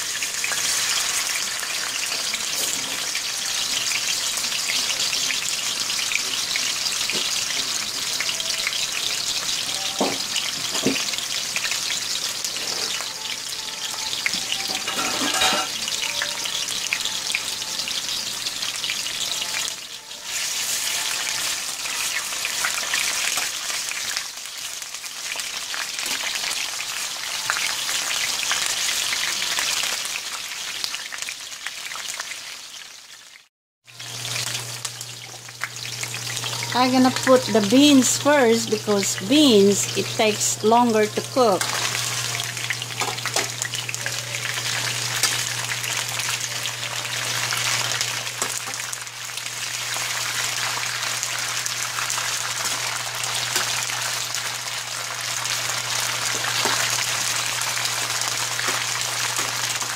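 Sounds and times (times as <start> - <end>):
onion sizzling in a frying pan: 0.0 - 59.9.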